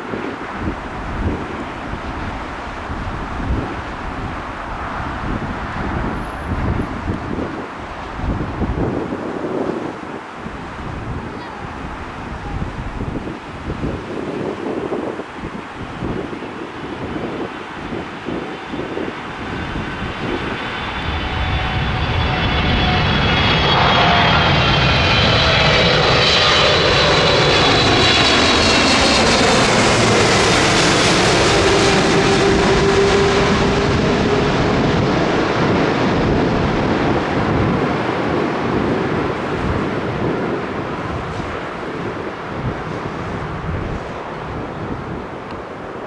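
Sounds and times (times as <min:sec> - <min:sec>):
airliner engines passing overhead: 0:00.0 - 0:46.0.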